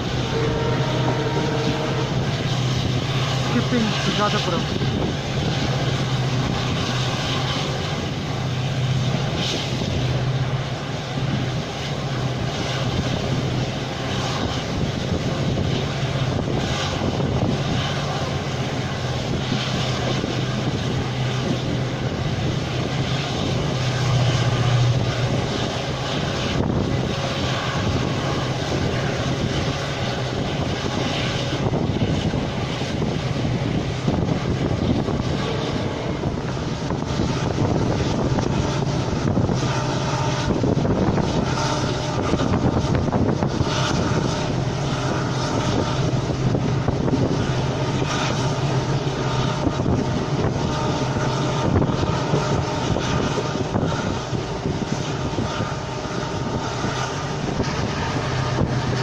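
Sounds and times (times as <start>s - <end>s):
diesel locomotive engine drone: 0.0s - 59.0s
train wheels and air rushing: 0.0s - 59.0s.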